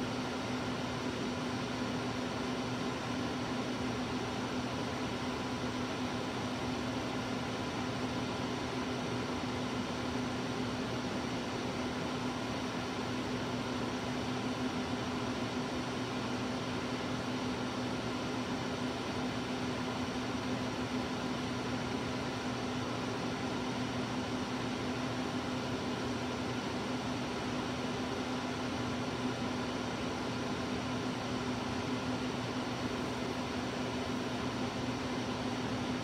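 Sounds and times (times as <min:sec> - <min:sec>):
fan whir: 0:00.0 - 0:36.0.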